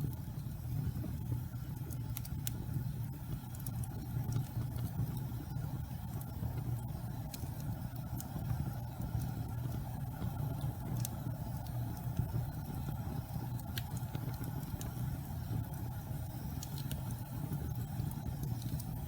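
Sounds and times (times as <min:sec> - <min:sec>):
low rumble of flame: 0:00.0 - 0:19.0
wood crackling and popping: 0:00.0 - 0:19.0.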